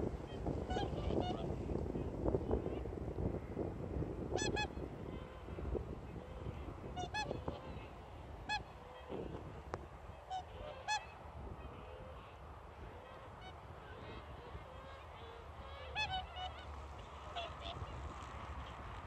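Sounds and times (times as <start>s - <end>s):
swans bugling honks: 0.7s - 1.6s, 4.4s - 19.0s.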